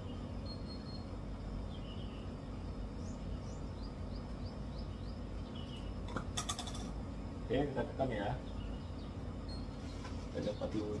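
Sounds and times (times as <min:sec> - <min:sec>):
low background rumble: 0:00.0 - 0:11.0
small birds chirping: 0:00.0 - 0:11.0.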